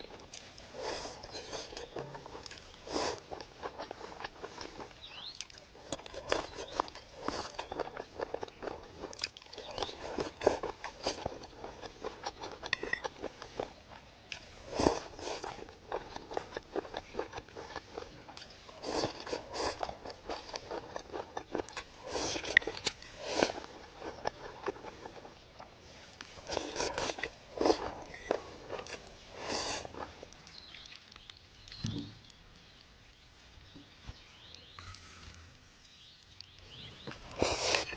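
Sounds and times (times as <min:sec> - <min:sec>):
person chewing crunchy food: 0:00.0 - 0:31.8, 0:36.8 - 0:37.9.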